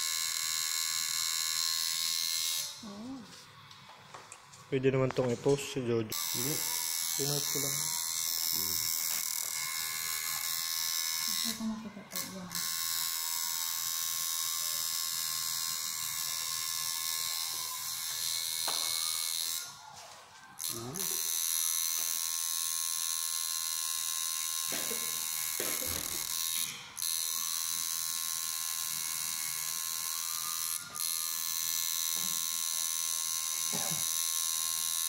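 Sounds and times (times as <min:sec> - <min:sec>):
tattoo machine buzzing: 0:00.0 - 0:03.4, 0:06.1 - 0:20.0, 0:20.6 - 0:35.0.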